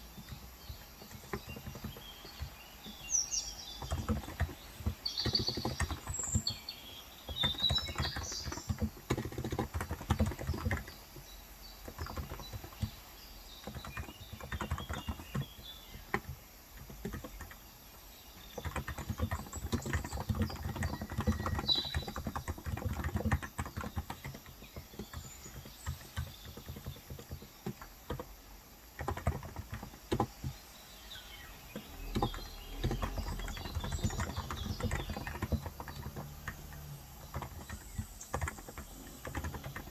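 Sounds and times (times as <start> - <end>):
keyboard typing: 0.0 - 17.7, 18.3 - 30.6, 31.4 - 39.9
faint bird chirps: 0.0 - 28.4, 29.0 - 39.9.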